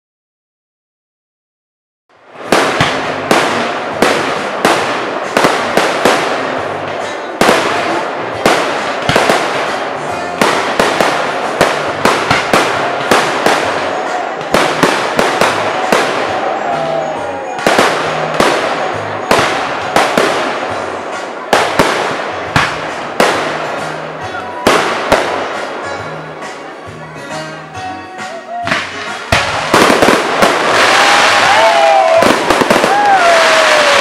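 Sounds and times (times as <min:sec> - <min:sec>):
fireworks shells bursting: 0:02.3 - 0:26.6, 0:28.7 - 0:34.0.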